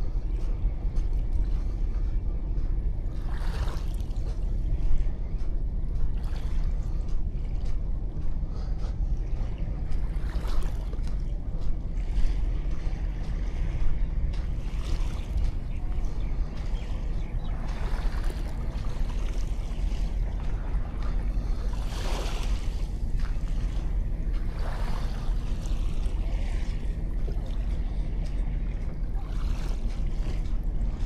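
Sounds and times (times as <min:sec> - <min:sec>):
low wind rumble on microphone: 0:00.0 - 0:31.0.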